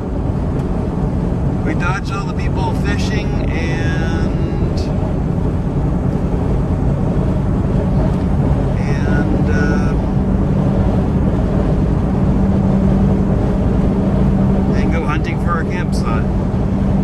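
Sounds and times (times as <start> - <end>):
constant hum: 0.0 - 17.0
engine and road drone: 0.0 - 17.0.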